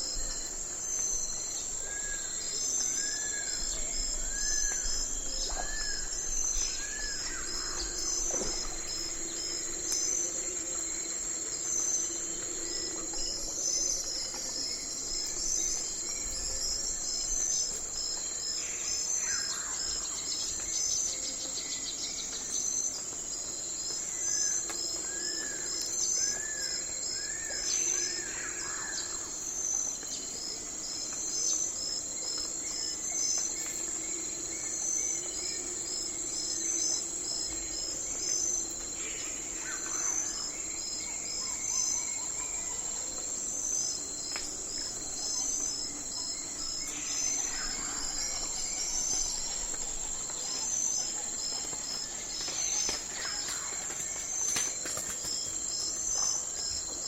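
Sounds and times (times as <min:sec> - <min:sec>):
crickets chirping: 0:00.0 - 0:57.0
insects droning: 0:00.0 - 0:57.0.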